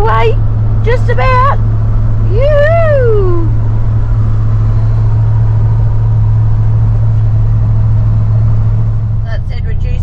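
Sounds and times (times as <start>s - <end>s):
road and engine drone in car: 0.0s - 10.0s.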